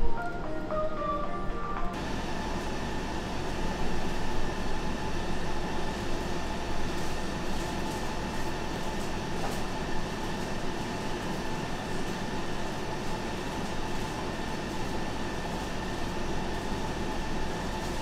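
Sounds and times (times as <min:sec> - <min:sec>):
machine humming and whirring: 0:00.0 - 0:18.0.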